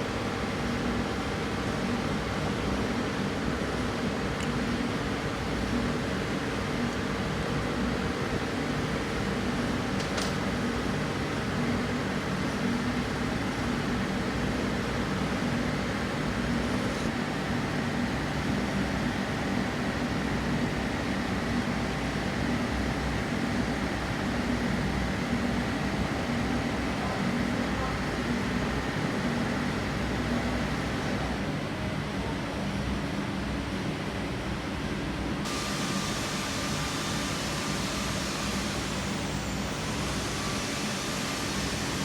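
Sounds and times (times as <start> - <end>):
mechanical hum and hiss: 0.0 - 42.0.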